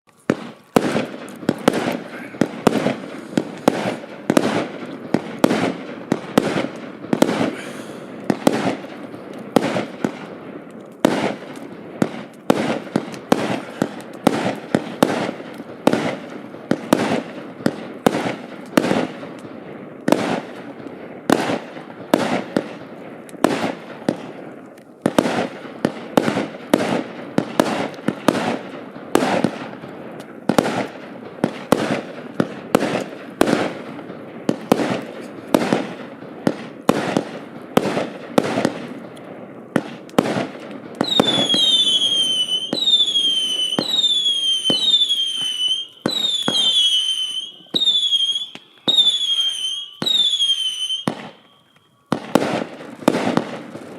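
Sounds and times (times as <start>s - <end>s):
firework crackling: 0.1s - 53.9s
firework bangs: 0.2s - 51.5s, 52.1s - 53.9s.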